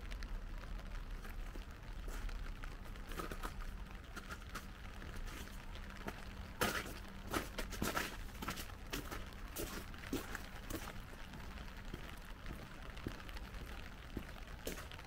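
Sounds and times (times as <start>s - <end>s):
light rain: 0.0s - 15.0s
footsteps on wet ground: 1.0s - 15.0s.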